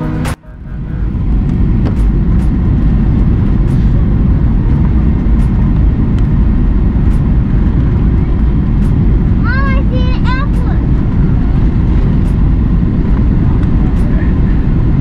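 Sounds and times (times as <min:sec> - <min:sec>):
jet engines rumbling: 0:00.0 - 0:15.0
rushing air: 0:00.0 - 0:15.0.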